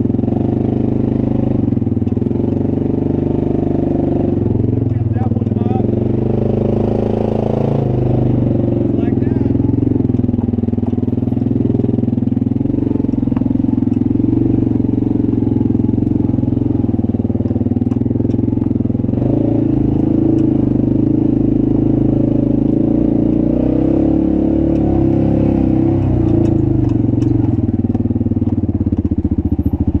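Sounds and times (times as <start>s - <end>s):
off-road vehicle engine at low speed: 0.0s - 30.0s.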